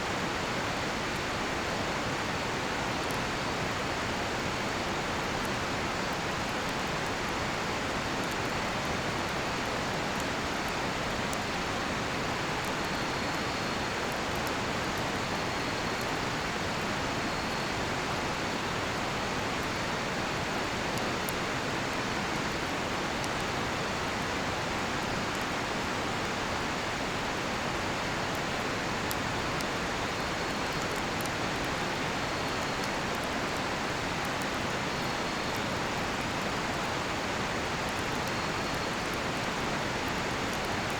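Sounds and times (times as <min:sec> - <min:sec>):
campfire crackling: 0:00.0 - 0:40.9
faint cricket trills: 0:00.3 - 0:40.9.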